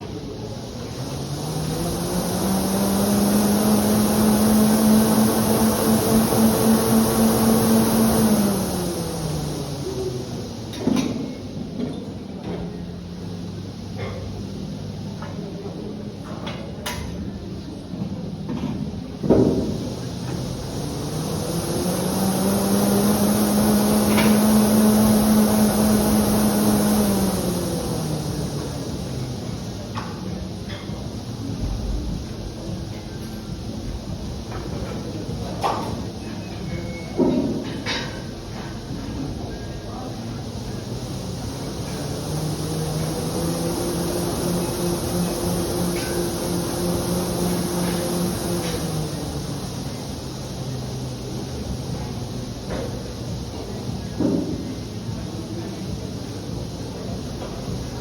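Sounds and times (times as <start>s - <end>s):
exercise bike whirring: 0.0s - 58.0s.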